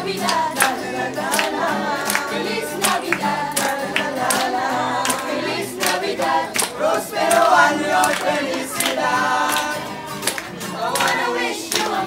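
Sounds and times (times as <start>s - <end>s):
acoustic guitar: 0.0s - 12.0s
carolers singing in chorus: 0.0s - 12.0s.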